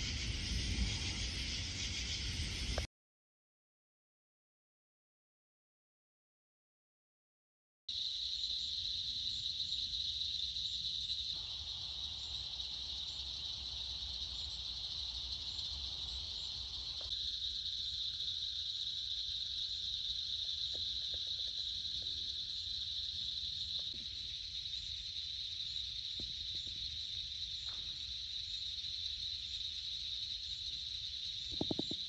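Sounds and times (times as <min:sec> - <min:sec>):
night insects chirring: 0:00.0 - 0:02.9, 0:07.9 - 0:32.0.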